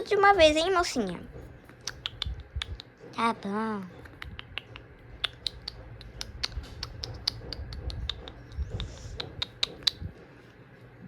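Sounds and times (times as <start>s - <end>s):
low rumble of handling: 0.0s - 11.0s.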